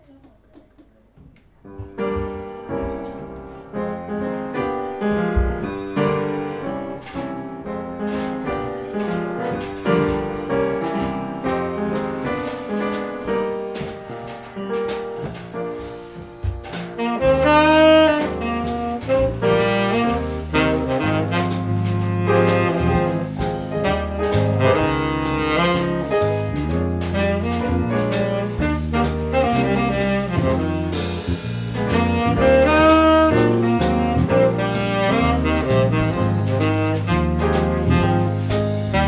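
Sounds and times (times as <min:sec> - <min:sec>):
piano chords: 0:01.6 - 0:39.0
walking bass: 0:01.8 - 0:39.0.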